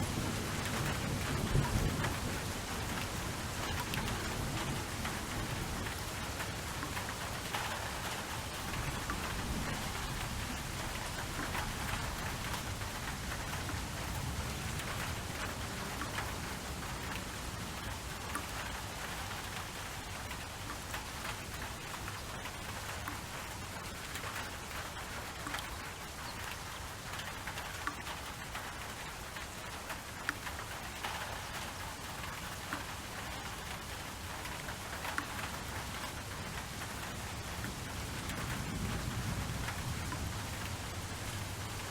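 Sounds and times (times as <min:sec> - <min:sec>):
rain on a hard surface: 0:00.0 - 0:41.9.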